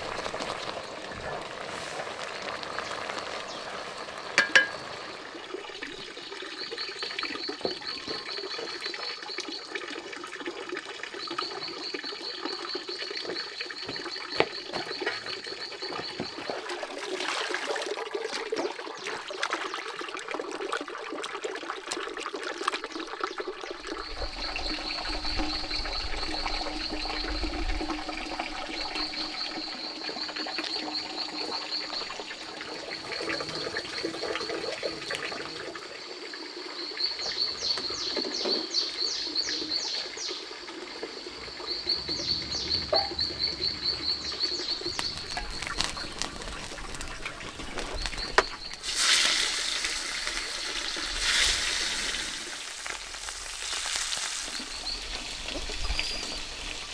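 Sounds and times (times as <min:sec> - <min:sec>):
water splashing and trickling: 0:00.0 - 0:56.9.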